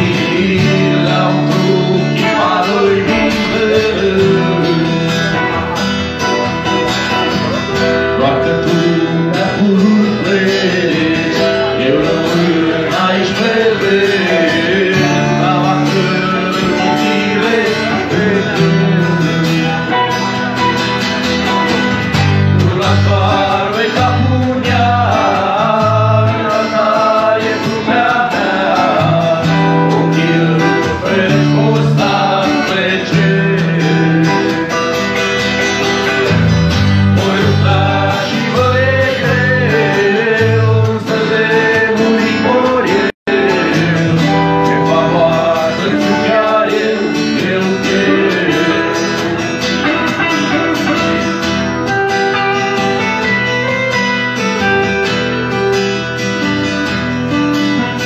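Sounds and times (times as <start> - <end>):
man singing: 0.0 - 53.6
acoustic guitar strumming: 0.0 - 58.0.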